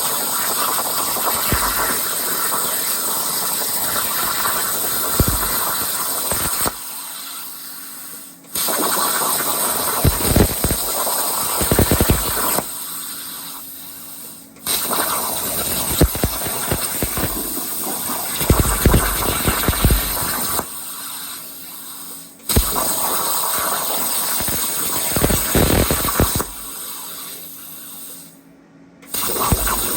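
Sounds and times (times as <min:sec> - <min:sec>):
plasma cutter hissing: 0:00.0 - 0:28.4, 0:29.1 - 0:29.9.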